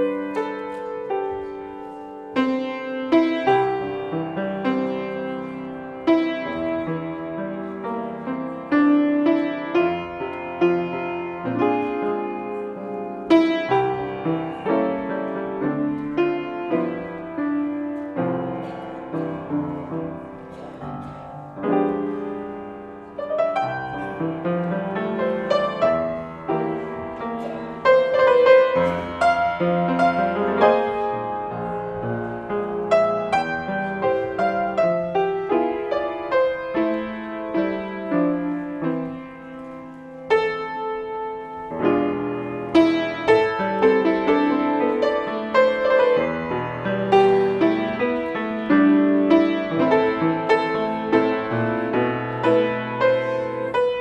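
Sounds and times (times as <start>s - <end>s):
slow piano piece: 0.0s - 54.0s.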